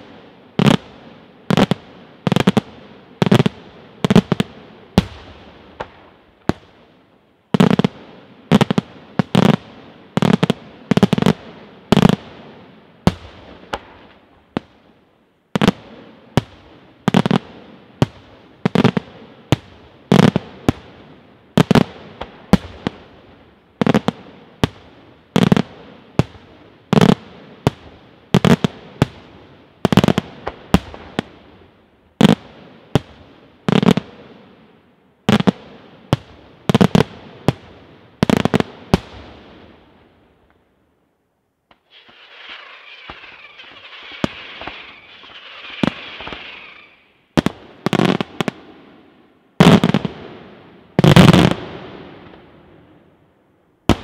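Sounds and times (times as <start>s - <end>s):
fireworks bangs with echo: 0.0s - 14.8s, 15.5s - 40.0s, 41.7s - 52.7s.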